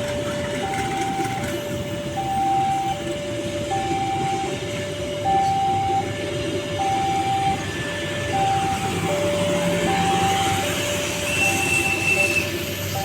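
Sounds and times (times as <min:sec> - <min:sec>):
electronic two-tone warning: 0:00.0 - 0:13.0.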